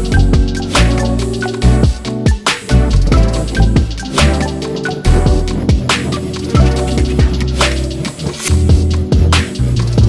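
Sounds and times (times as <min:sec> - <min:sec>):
electronic music with beat and bass: 0:00.0 - 0:10.0.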